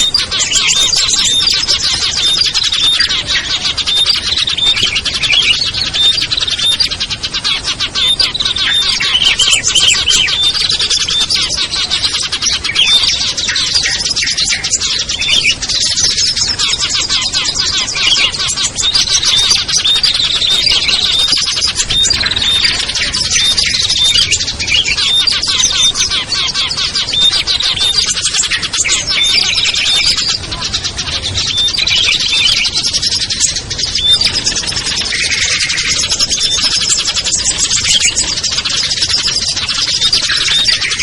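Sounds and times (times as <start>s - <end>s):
small songbirds chirping and trilling: 0.0s - 41.0s.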